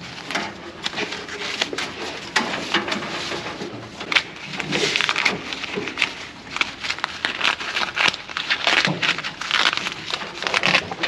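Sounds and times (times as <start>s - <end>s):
plastic wire loom crackling: 0.0s - 11.0s.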